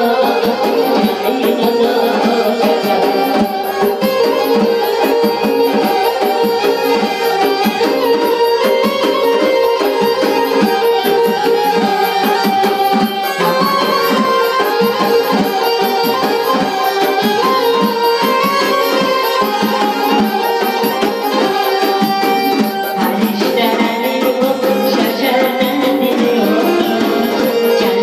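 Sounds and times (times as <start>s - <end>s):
button accordion melody: 0.0s - 28.0s
electronic keyboard: 0.0s - 28.0s.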